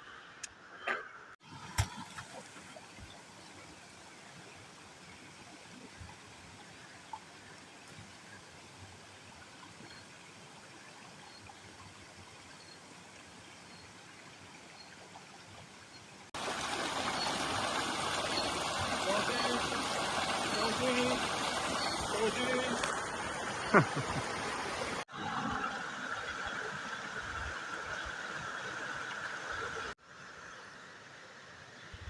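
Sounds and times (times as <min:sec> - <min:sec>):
stream trickling: 0:01.4 - 0:32.0.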